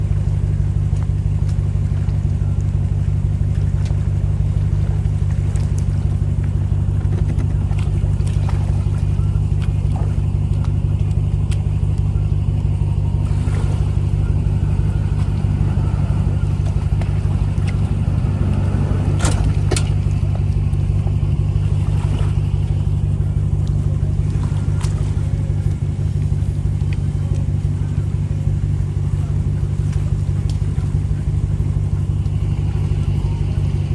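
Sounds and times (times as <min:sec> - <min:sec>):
boat engine droning: 0:00.0 - 0:33.9.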